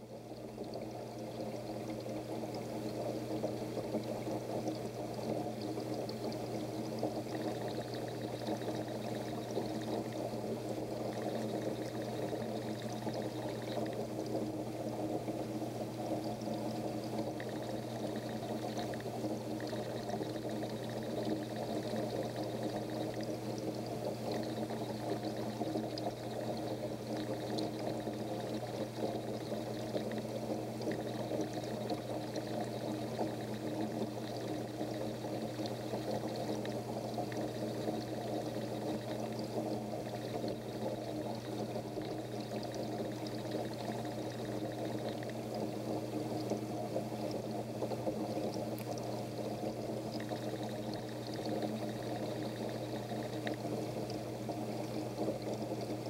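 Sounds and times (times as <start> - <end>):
aquarium filter water splashing: 0.0 - 56.0.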